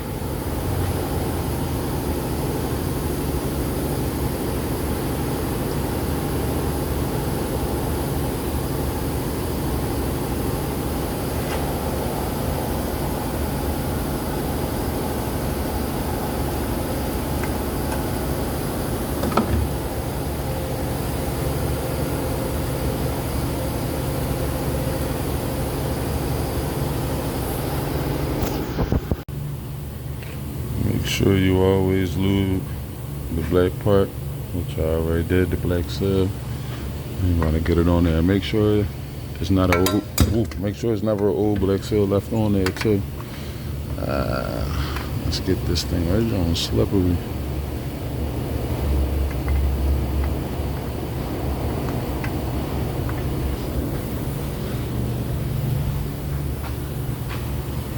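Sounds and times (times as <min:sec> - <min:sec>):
faint hum: 0:00.0 - 0:57.9.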